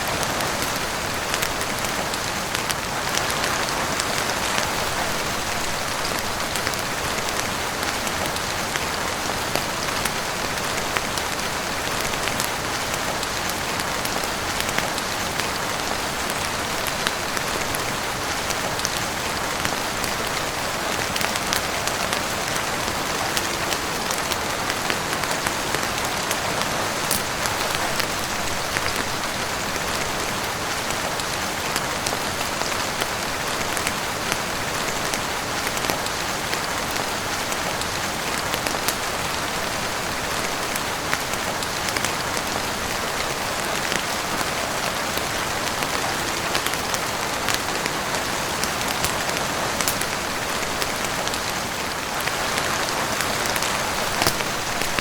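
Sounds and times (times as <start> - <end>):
heavy rain on a roof and windows: 0.0 - 55.0.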